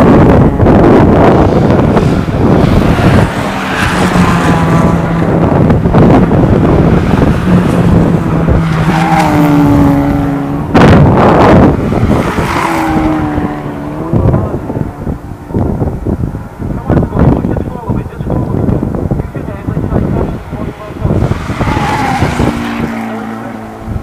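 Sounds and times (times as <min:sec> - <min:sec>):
race cars passing at high revs: 0:00.0 - 0:24.0
wind noise on microphone: 0:00.0 - 0:24.0.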